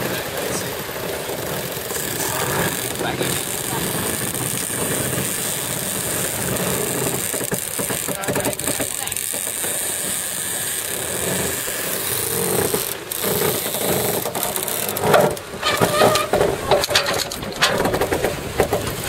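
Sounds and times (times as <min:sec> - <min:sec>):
winch pawls clicking: 0:00.2 - 0:19.0.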